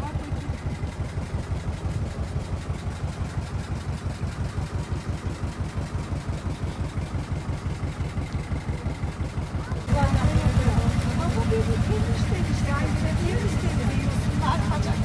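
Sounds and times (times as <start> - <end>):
boat engine throbbing: 0.0 - 15.0.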